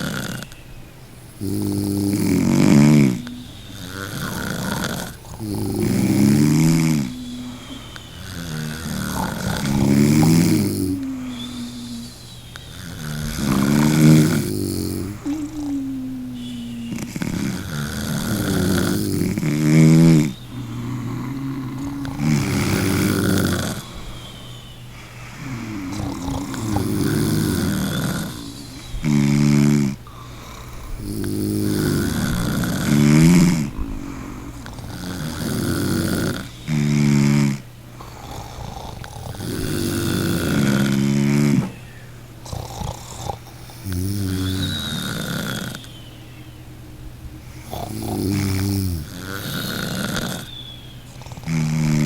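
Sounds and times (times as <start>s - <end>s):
person snoring: 0.0s - 41.8s, 42.4s - 46.0s, 47.4s - 52.0s.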